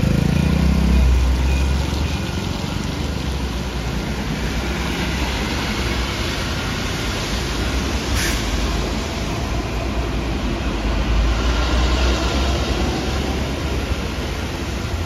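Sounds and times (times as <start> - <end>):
tyres hissing on wet road: 1.1 - 15.0.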